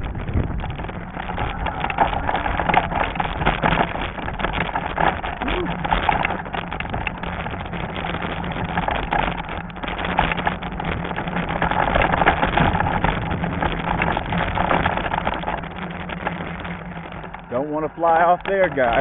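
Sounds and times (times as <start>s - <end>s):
bike tyre rumble on trail: 0.0s - 19.0s
steady low hum: 0.0s - 19.0s
wind buffeting microphone: 0.0s - 19.0s.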